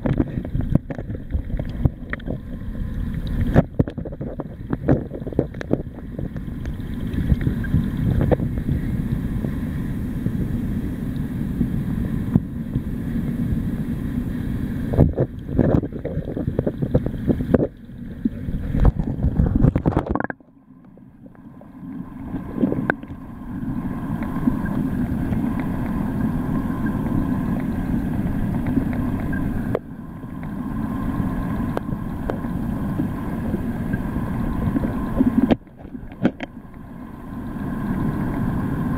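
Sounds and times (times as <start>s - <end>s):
muffled underwater water rush: 0.0s - 38.9s.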